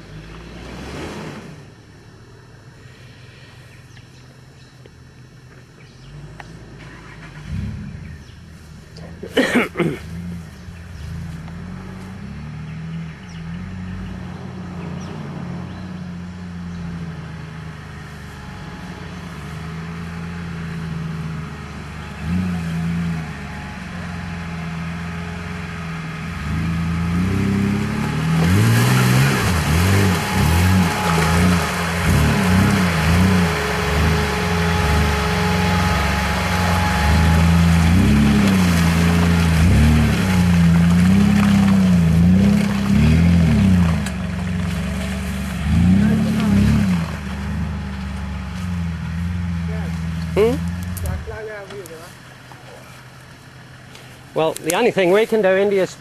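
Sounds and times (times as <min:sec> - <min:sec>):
engine revving unevenly: 0:00.0 - 0:02.4, 0:05.9 - 0:56.0.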